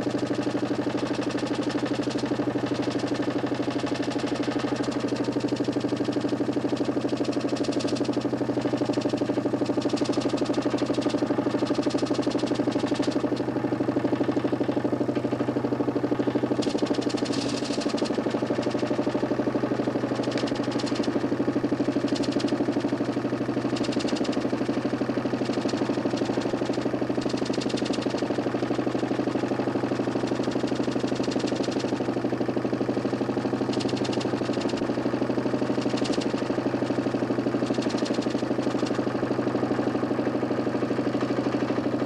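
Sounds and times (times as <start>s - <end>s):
motor humming with fast flutter: 0.0s - 42.0s.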